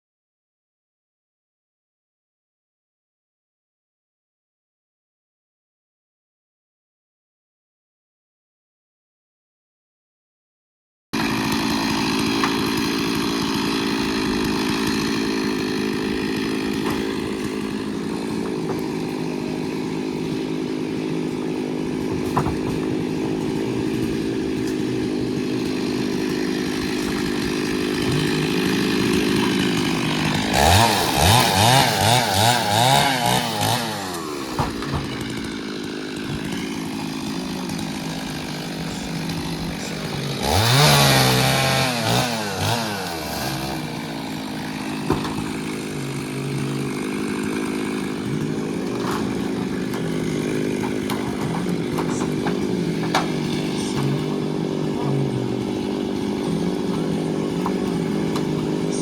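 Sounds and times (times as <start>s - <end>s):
chainsaw engine revving: 11.2s - 59.0s.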